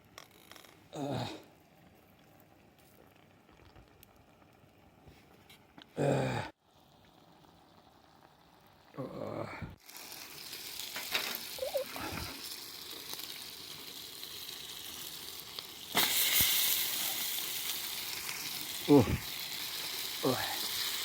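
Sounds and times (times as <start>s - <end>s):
food sizzling over campfire: 1.0s - 21.0s.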